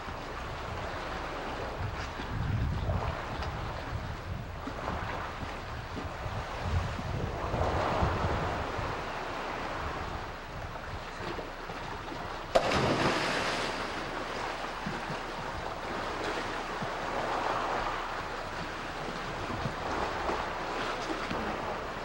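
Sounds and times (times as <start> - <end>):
sea wash: 0.0 - 22.0
wind buffeting microphone: 0.0 - 22.0.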